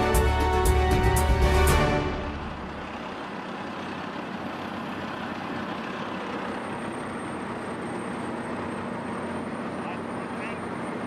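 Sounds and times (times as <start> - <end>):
road paver machinery noise: 0.0 - 11.0.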